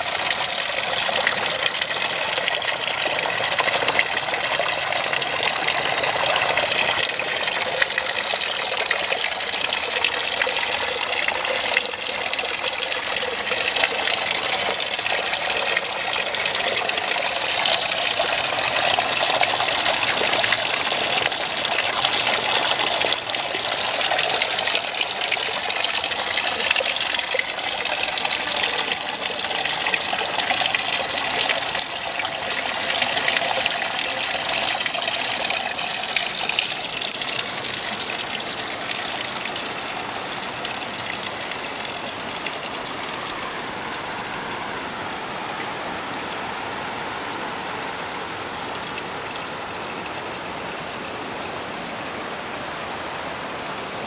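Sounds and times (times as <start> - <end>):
fountain water splashing into trough: 0.0 - 45.8.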